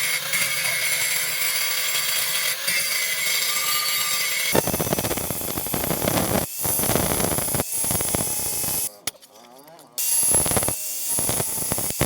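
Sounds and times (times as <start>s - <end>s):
electric grinder grinding steel: 0.0s - 9.1s, 10.0s - 12.0s.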